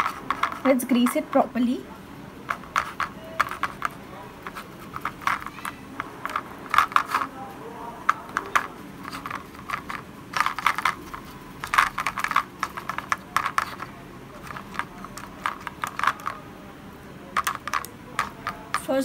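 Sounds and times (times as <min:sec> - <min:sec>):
brush tapping plastic mould: 0:00.0 - 0:01.5, 0:02.4 - 0:07.4, 0:08.0 - 0:16.4, 0:17.4 - 0:19.0.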